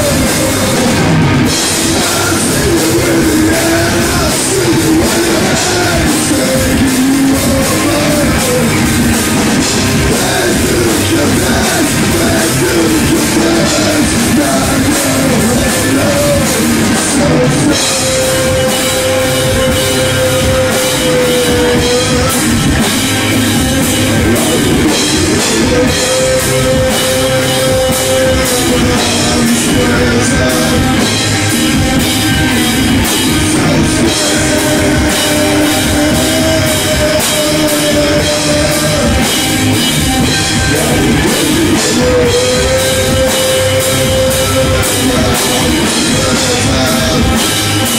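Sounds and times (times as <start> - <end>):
drum kit: 0.0 - 47.9
electric guitar: 0.0 - 47.9
person singing: 0.0 - 47.9.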